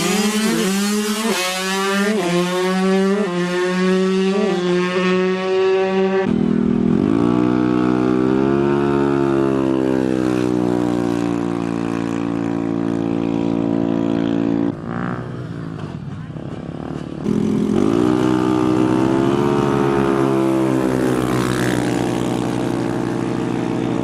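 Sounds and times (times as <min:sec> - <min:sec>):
motorbike engine revving: 0:00.0 - 0:15.5, 0:16.8 - 0:24.0.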